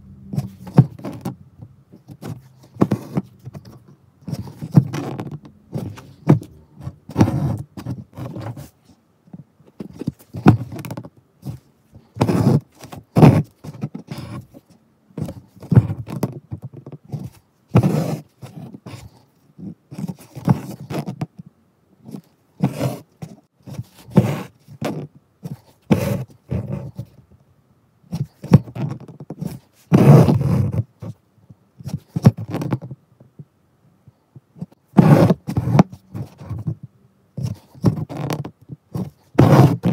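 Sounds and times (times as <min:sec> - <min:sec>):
needle and thread pulled through fabric: 0:00.3 - 0:09.0, 0:09.7 - 0:21.2, 0:22.0 - 0:27.2, 0:28.1 - 0:31.2, 0:34.6 - 0:36.8, 0:37.4 - 0:39.9.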